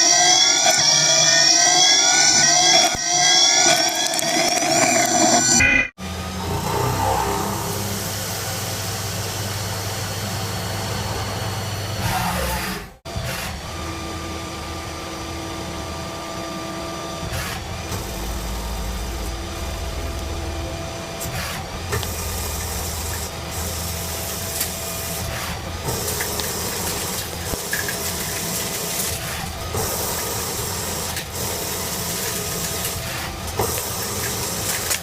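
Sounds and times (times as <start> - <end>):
cnc machine humming and whining: 0.0 - 35.0
cutting noise: 0.0 - 35.0.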